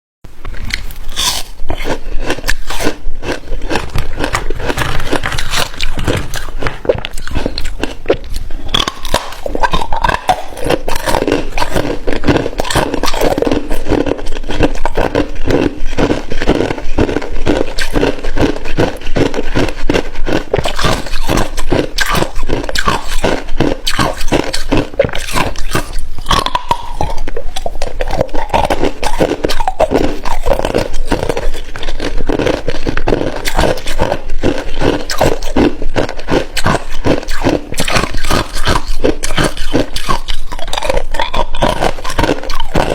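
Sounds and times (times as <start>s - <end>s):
ice being chewed: 0.4s - 42.9s.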